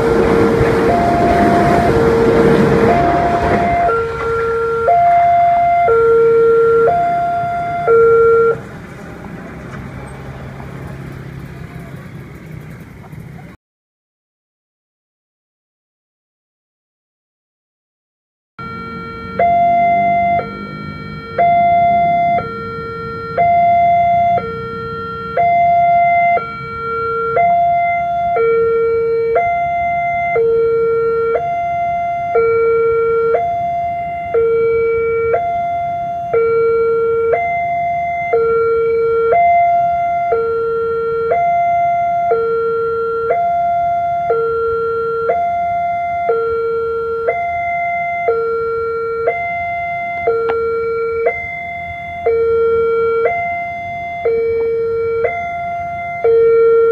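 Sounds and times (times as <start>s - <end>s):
level crossing two-tone alarm: 0.0s - 8.6s, 18.6s - 56.9s.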